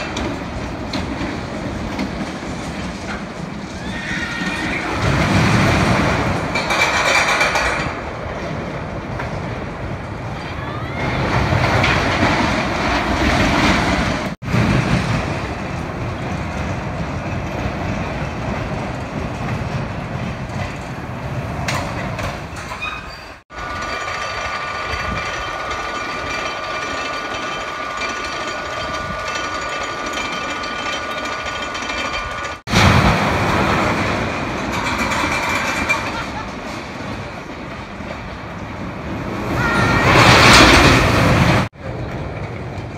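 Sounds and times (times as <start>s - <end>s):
roller coaster rumbling and clattering: 0.0s - 42.9s.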